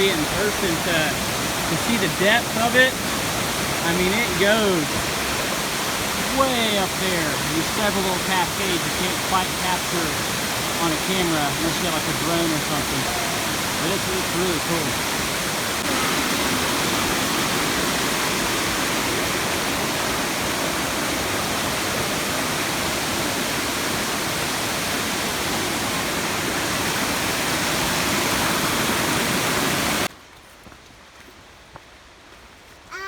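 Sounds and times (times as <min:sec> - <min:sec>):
waterfall roaring: 0:00.0 - 0:30.1.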